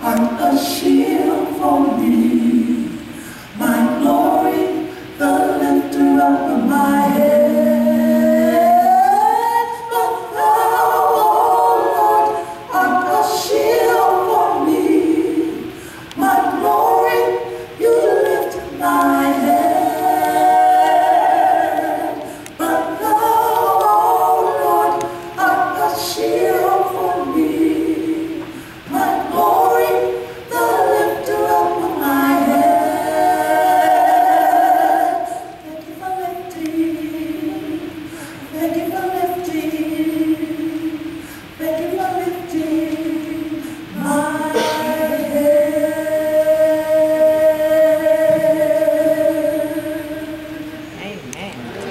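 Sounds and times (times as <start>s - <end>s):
vocal trio singing a cappella: 0.0s - 51.9s.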